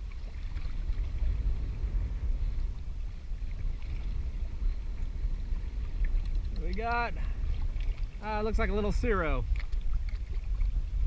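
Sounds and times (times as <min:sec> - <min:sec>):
choppy water against kayak: 0:00.0 - 0:11.0
wind rumbling on microphone: 0:00.0 - 0:11.0.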